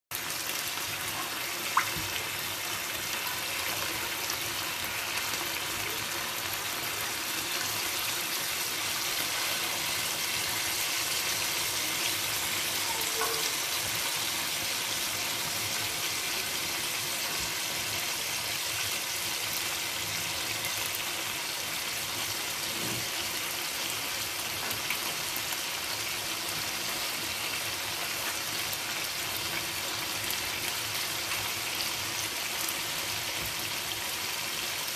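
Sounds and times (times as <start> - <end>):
chicken sizzling in frying pan: 0.1 - 34.9.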